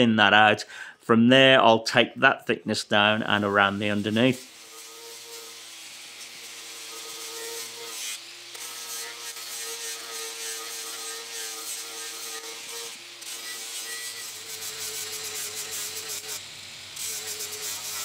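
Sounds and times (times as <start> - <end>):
angle grinder grinding wood: 2.9 - 18.0.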